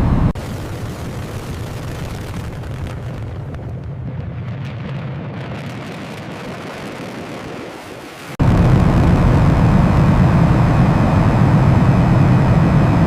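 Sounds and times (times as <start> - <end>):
fighter jet engines roaring: 0.0 - 1.4, 3.7 - 13.0.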